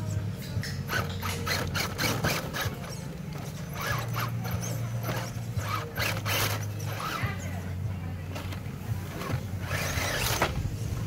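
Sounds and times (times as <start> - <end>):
electric motor and gears whirring: 0.0 - 11.0.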